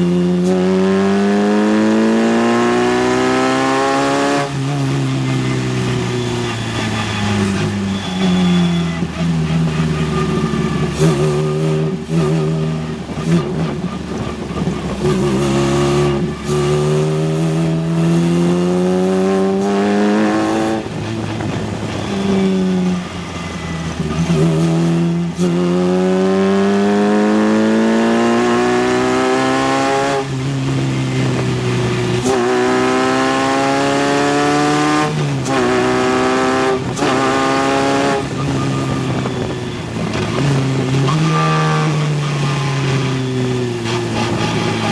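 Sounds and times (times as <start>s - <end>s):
race car engine accelerating: 0.0s - 44.9s.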